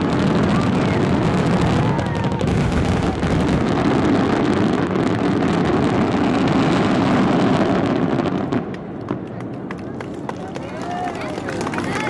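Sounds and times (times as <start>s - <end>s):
fireworks bursts rumbling: 0.0s - 12.0s
fireworks crackling: 0.0s - 12.0s.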